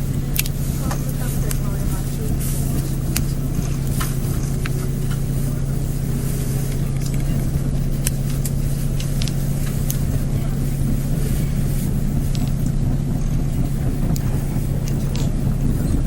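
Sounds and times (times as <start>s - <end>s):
train engine drone: 0.0s - 16.0s.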